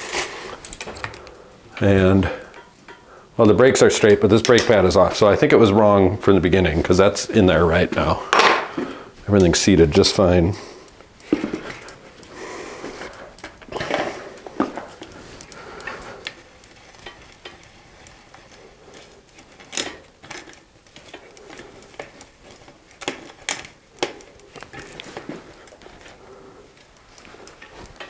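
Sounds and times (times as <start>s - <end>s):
hands clicking and rattling bicycle parts: 0.0s - 3.2s, 3.9s - 5.0s, 7.7s - 28.0s.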